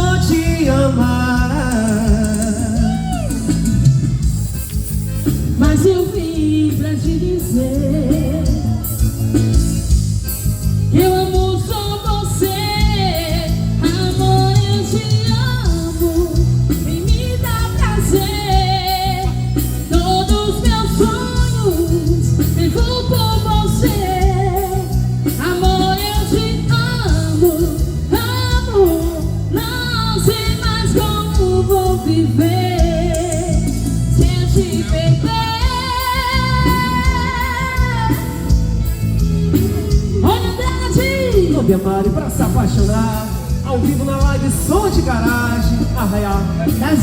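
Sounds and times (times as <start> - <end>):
band playing steady beat: 0.0 - 47.0
person singing with vibrato: 0.0 - 47.0.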